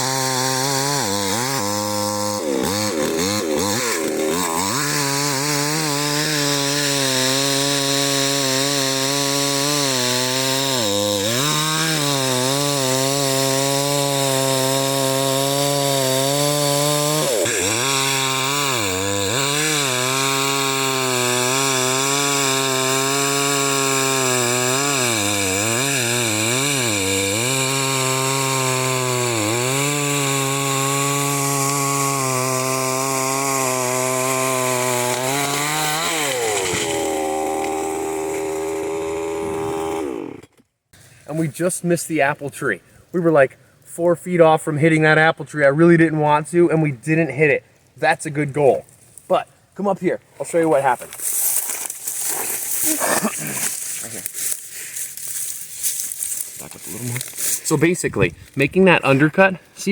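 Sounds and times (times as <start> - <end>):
chainsaw cutting wood: 0.0 - 41.6, 50.5 - 59.9.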